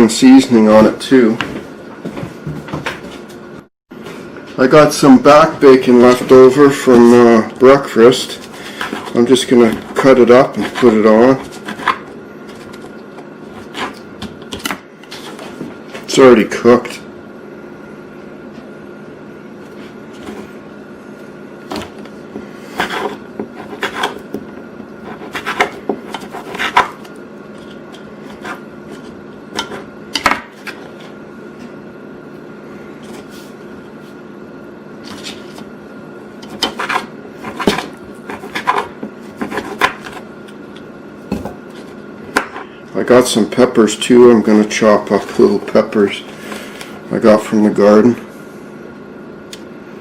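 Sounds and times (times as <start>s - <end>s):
kitchen hum: 0.0s - 50.0s.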